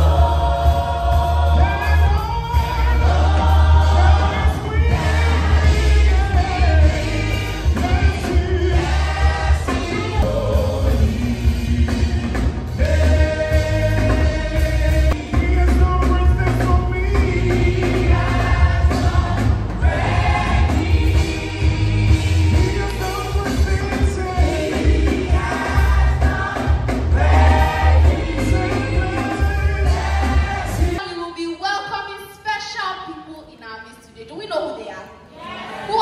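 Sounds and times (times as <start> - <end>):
backing choir singing: 0.0 - 31.0.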